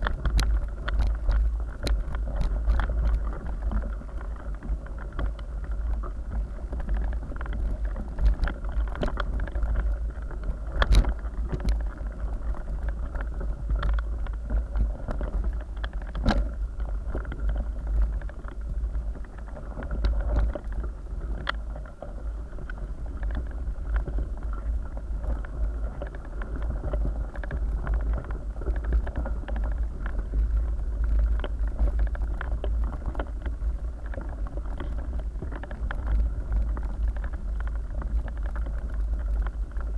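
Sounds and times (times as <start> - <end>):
bike rumbling over gravel: 0.0 - 39.9.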